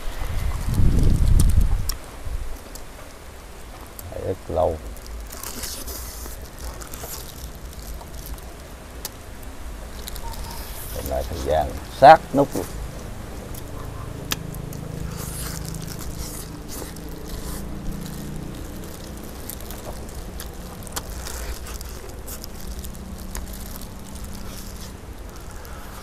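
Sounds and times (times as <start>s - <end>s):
man chewing food: 0.2s - 26.0s.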